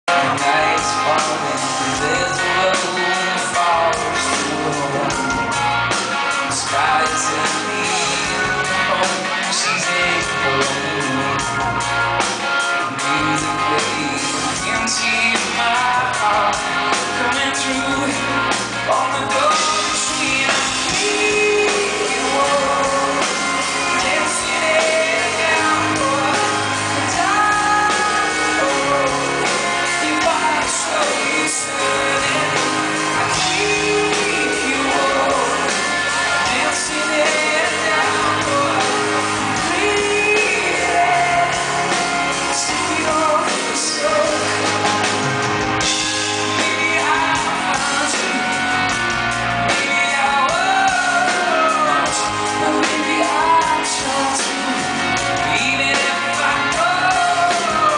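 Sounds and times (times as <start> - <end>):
live rock band playing: 0.0 - 57.9
man singing: 0.0 - 57.9.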